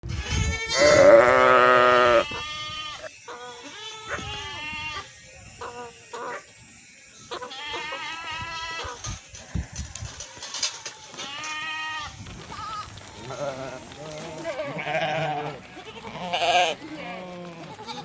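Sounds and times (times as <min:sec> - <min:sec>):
goats and sheep bleating: 0:00.0 - 0:18.0.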